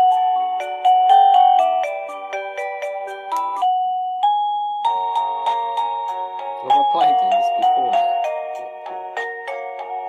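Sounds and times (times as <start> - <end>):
doorbell chime melody: 0.0 - 10.0.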